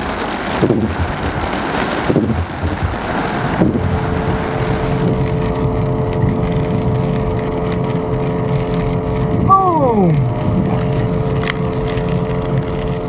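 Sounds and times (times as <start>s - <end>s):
car driving on highway hum: 0.0s - 13.0s
hail and rain on car roof: 0.0s - 13.0s.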